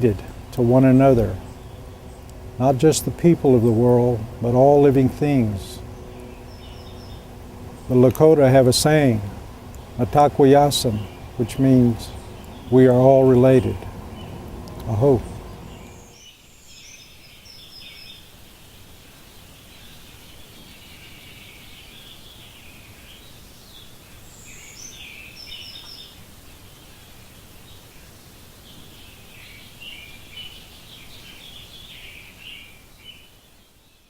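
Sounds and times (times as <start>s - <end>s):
low outdoor background noise: 0.0s - 34.0s
songbirds chirping and singing: 0.0s - 34.0s.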